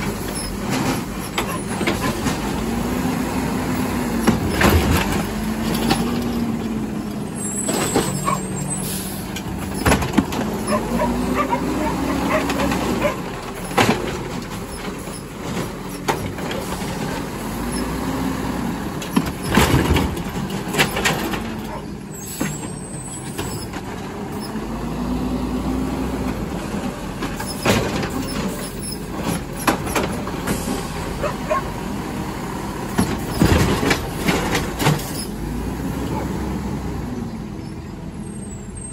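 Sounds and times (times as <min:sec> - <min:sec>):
garbage truck engine revving: 0:00.0 - 0:38.1.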